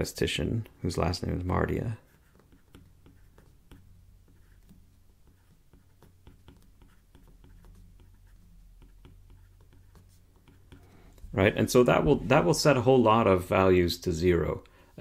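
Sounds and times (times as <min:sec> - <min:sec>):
stylus tapping and scratching screen: 0:00.6 - 0:14.7.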